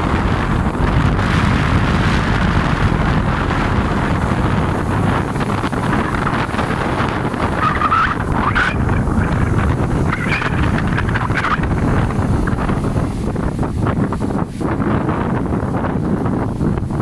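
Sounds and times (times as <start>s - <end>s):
sea waves breaking over rocks: 0.0s - 17.0s
wind buffeting microphone: 0.0s - 17.0s.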